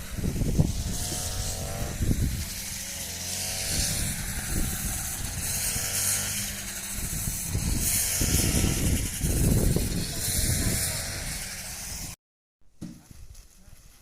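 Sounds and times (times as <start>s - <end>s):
small vehicle engine running: 0.0s - 12.2s.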